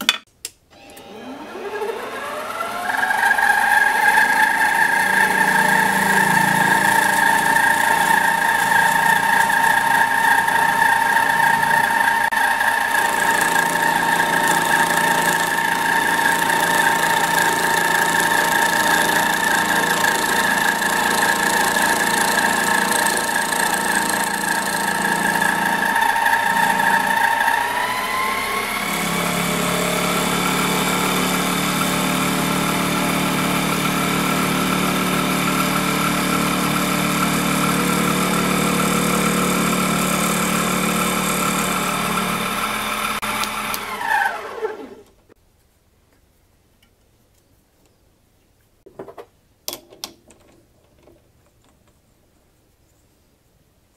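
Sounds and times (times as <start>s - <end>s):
lathe motor whine: 0.7s - 45.1s.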